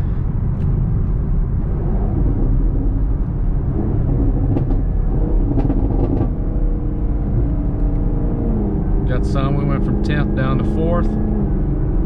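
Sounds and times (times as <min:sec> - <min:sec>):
car engine downshifting: 0:00.0 - 0:12.0.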